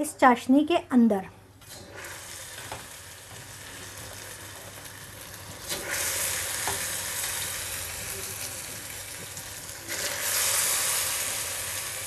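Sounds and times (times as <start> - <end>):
bread deep-frying in ghee: 1.8 - 12.0
hot bread hissing in syrup: 2.0 - 12.0.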